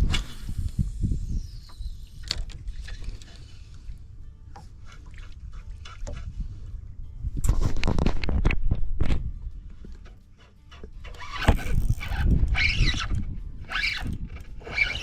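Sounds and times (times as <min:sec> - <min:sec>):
wind on microphone: 0:00.0 - 0:04.2, 0:05.2 - 0:10.0, 0:11.0 - 0:15.0.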